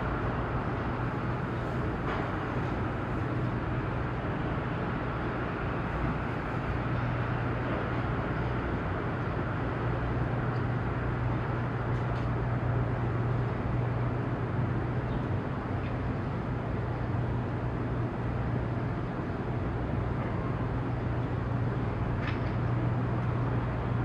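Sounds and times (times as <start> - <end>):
broad outdoor noise: 0.0 - 24.0
low engine hum of vessels: 0.0 - 24.0.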